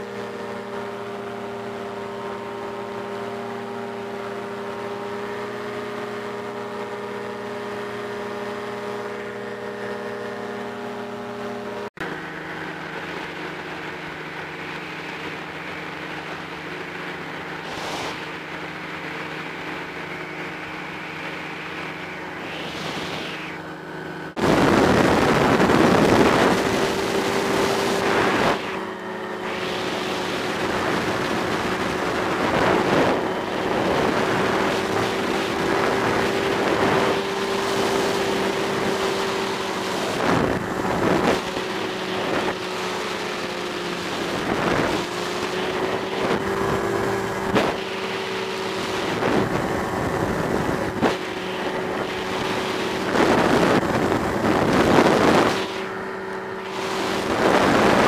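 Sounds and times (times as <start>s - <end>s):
engine and propeller droning: 0.0s - 58.0s
wind rush on microphone: 0.0s - 58.0s.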